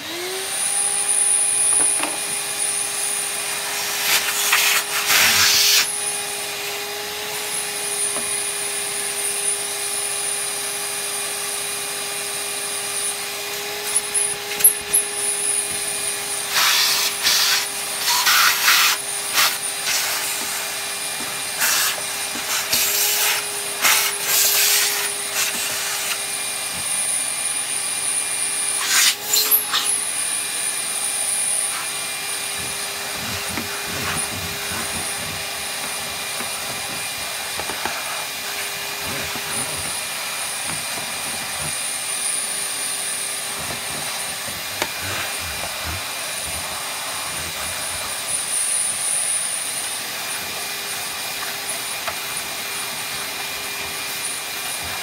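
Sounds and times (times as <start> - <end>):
vacuum cleaner motor humming: 0.0 - 55.0.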